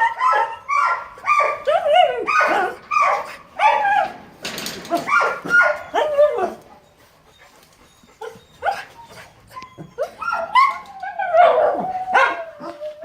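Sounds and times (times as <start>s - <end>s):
dogs whining and yipping: 0.0s - 13.0s.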